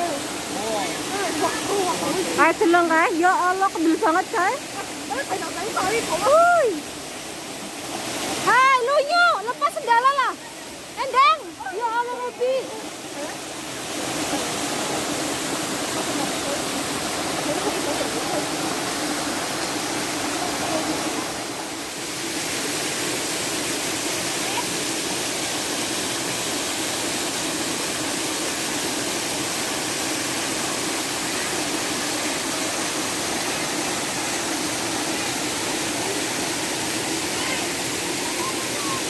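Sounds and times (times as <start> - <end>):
water rushing over rocks: 0.0 - 39.0.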